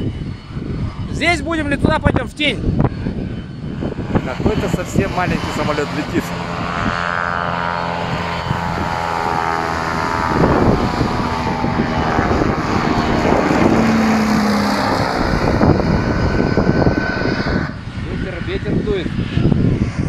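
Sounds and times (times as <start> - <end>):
small aircraft flying overhead: 0.0 - 20.0.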